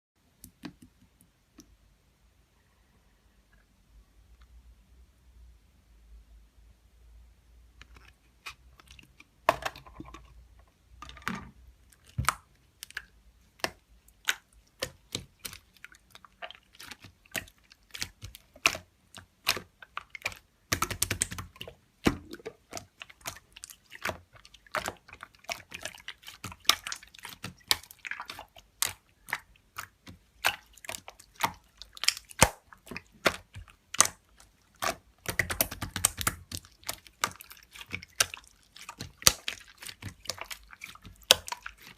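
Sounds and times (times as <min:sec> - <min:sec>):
slime squelching: 0:07.7 - 0:41.9.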